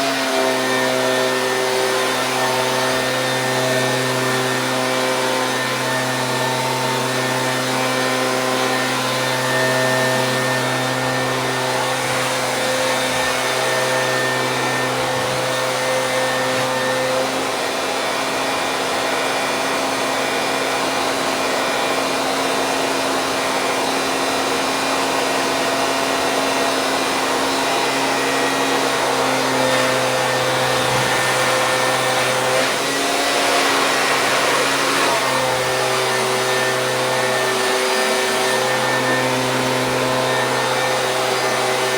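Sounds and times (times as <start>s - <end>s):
leaf blower engine running: 0.0s - 41.9s.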